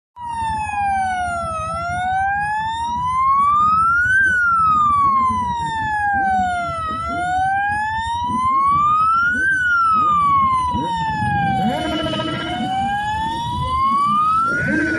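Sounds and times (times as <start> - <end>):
electronic siren wailing: 0.2 - 14.9.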